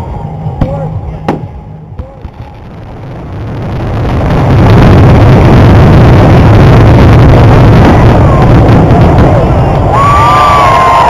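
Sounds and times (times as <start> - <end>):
fireworks bursting: 1.2 - 11.0.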